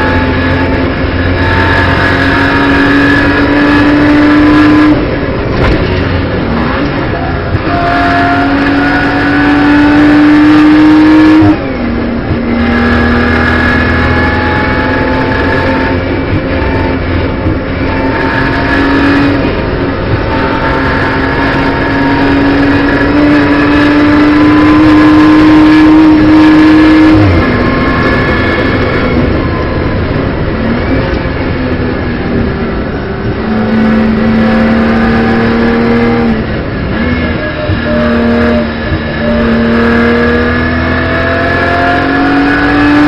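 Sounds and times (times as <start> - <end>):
car engine under load: 0.0 - 43.0.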